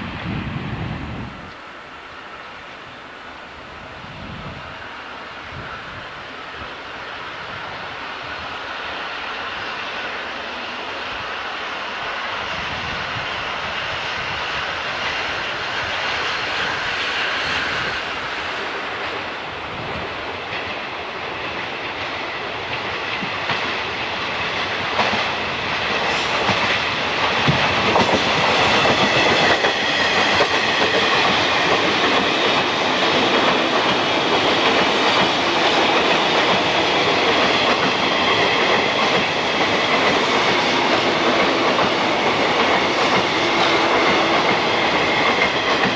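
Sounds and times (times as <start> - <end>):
train wheels clattering: 7.0 - 45.9.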